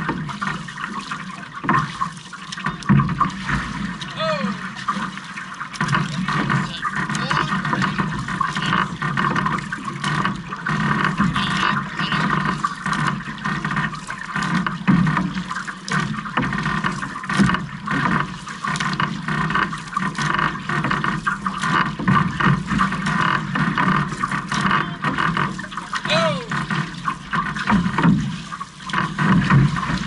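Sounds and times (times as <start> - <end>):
paddles dipping into water: 0.0 - 30.0
water rushing along canoe hull: 0.0 - 30.0.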